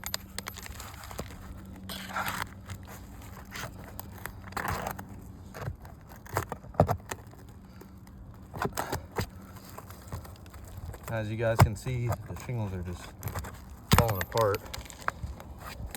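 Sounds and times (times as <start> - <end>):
roof shingles scraping and tearing: 0.5 - 15.9.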